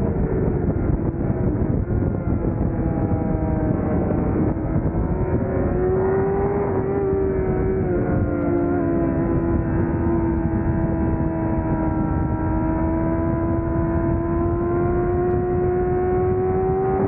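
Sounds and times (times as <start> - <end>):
racing motorcycle engine revving: 0.0 - 17.0
rush of wind: 0.0 - 17.0.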